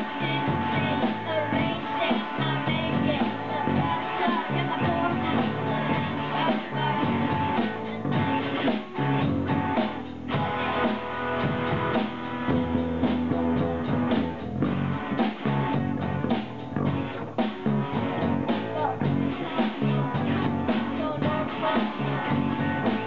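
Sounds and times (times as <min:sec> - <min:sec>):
bass: 0:00.0 - 0:23.0
drum kit: 0:00.0 - 0:23.0
guitar: 0:00.0 - 0:23.0
rock band playing: 0:00.0 - 0:23.0.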